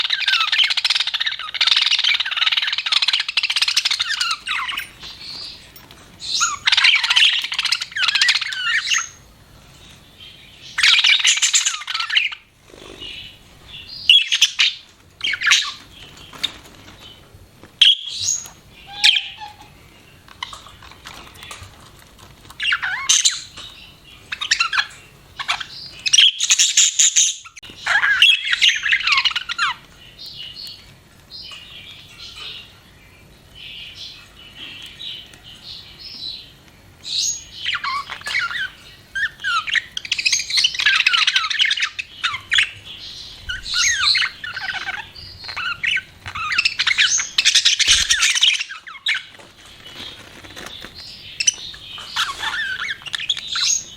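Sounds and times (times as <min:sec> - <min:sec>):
budgerigars chirping and warbling: 0:00.0 - 0:53.9.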